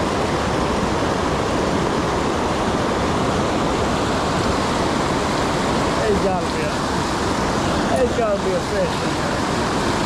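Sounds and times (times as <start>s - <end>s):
whitewater rapids roaring over rocks: 0.0s - 10.0s.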